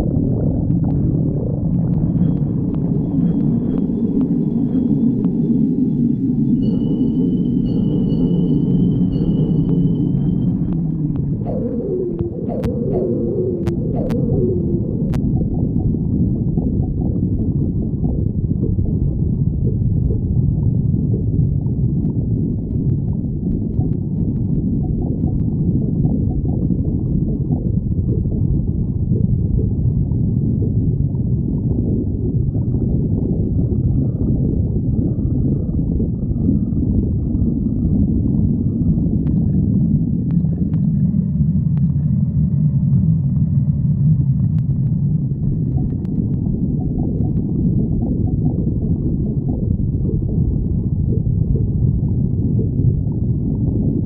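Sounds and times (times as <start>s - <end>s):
stomach growling: 0.0s - 5.8s, 9.0s - 54.0s.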